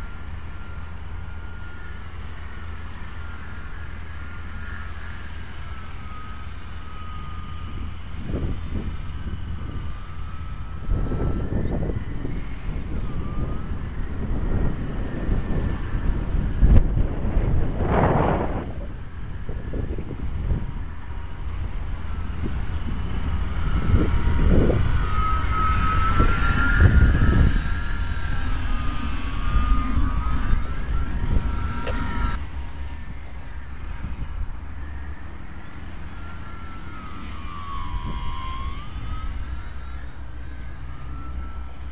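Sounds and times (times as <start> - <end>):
model plane motor whining: 0.0 - 41.9
wind buffeting microphone: 0.0 - 41.9.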